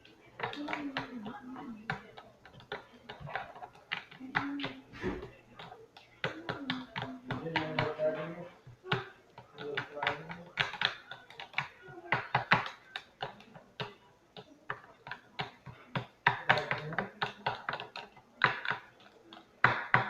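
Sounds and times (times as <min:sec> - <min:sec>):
small objects clicking and tapping: 0:00.0 - 0:20.0.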